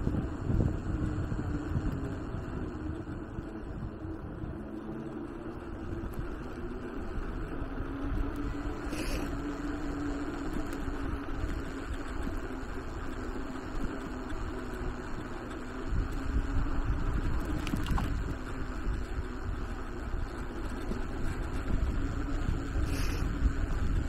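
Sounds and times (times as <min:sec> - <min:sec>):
electric motor hum: 0:00.0 - 0:24.0
wind rumbling on microphone: 0:00.0 - 0:24.0.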